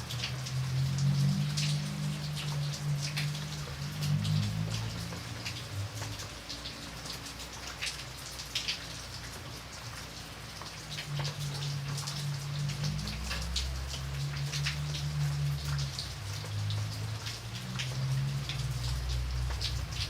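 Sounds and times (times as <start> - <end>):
rain hissing: 0.0 - 20.0
raindrops ticking on surface: 0.0 - 20.0.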